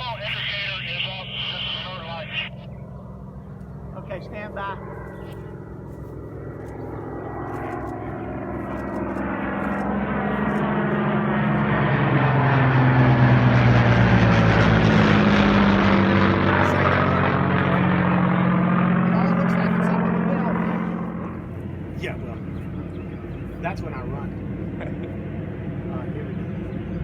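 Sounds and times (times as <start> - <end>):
propeller airplane engine: 0.0 - 27.0.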